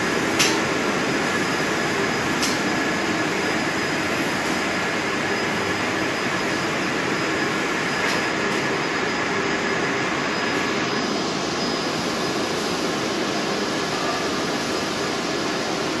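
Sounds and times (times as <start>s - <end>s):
coating machine whirring: 0.0s - 16.0s
faint steady machine tones: 0.0s - 16.0s.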